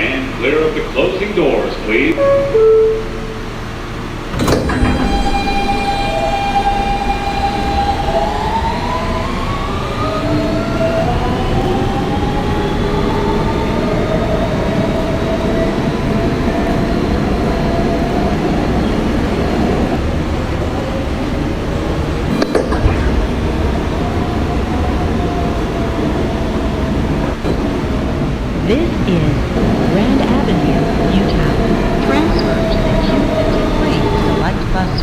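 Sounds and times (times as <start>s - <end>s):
subway train motors whining: 0.0s - 35.0s
wheels rumbling on rails: 0.0s - 35.0s.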